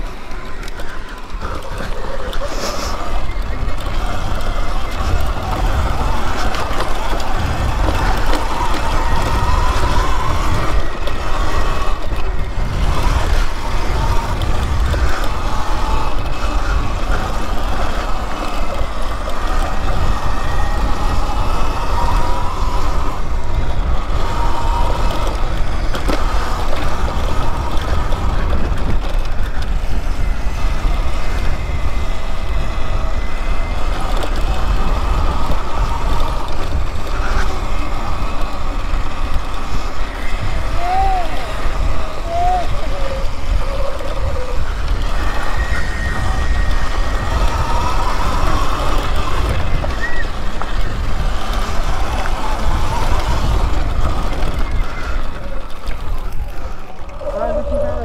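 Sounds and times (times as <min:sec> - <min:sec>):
electric motor whine: 0:00.0 - 0:58.0
wind buffeting microphone: 0:00.0 - 0:58.0.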